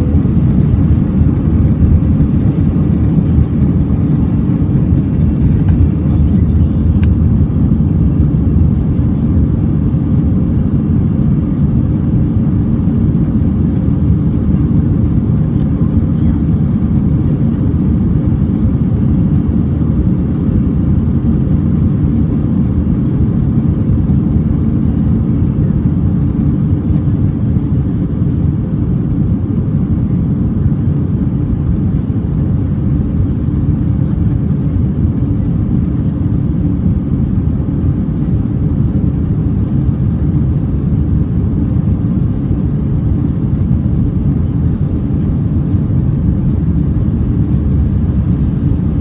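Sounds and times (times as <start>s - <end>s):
jet engine rumble in cabin: 0.0s - 49.0s.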